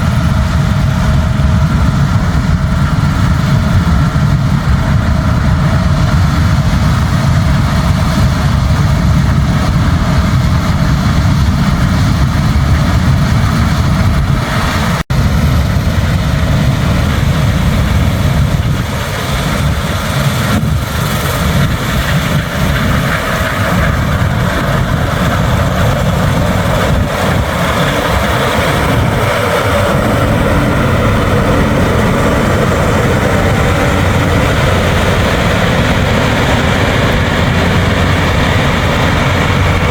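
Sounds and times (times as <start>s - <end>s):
combine harvester engine rumble: 0.0s - 39.9s
threshing machinery noise: 0.0s - 39.9s.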